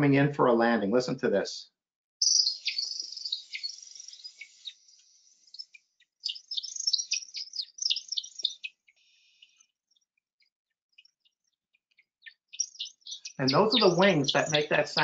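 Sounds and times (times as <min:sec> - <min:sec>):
bird chirps: 0:02.2 - 0:15.0
bird wings twittering: 0:02.2 - 0:15.0.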